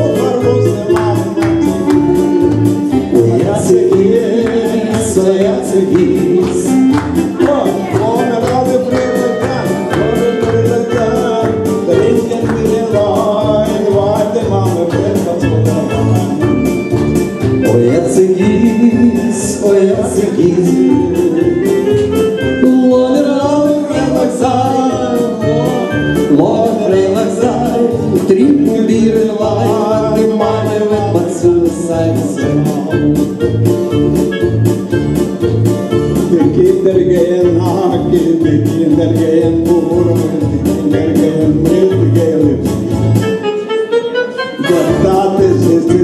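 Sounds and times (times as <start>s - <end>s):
man singing into a microphone: 0.0s - 16.8s, 17.6s - 34.5s, 36.0s - 42.9s, 44.5s - 46.0s
steady beat: 0.0s - 44.0s, 44.6s - 46.0s
electronic keyboard playing upbeat tune: 0.0s - 46.0s.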